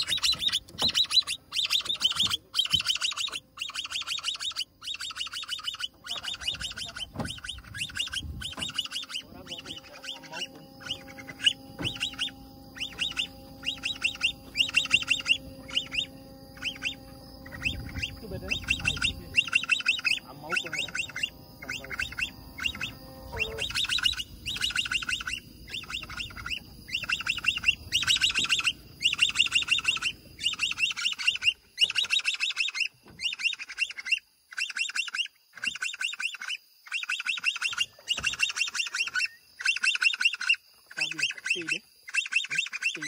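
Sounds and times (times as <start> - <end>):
baby caiman chirping distress calls: 0.0 - 43.0.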